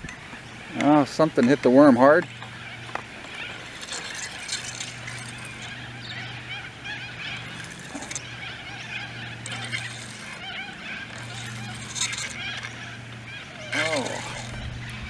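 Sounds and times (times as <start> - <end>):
birds chirping in a chorus: 0.0 - 15.0
steady low hum: 0.0 - 15.0.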